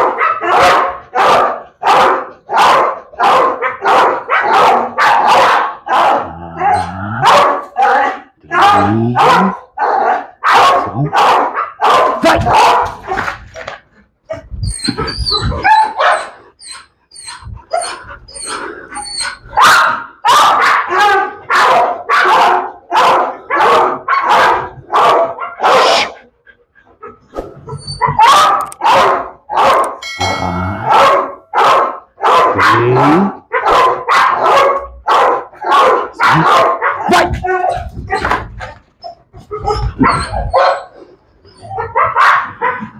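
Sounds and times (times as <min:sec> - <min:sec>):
dog barking: 0:00.0 - 0:13.7, 0:15.3 - 0:16.4, 0:19.5 - 0:26.2, 0:28.0 - 0:42.9.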